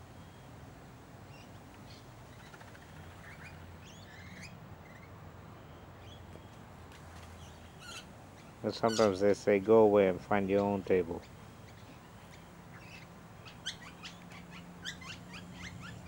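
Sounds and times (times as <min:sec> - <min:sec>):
lorikeets chirping: 0:01.3 - 0:06.6, 0:07.3 - 0:16.0.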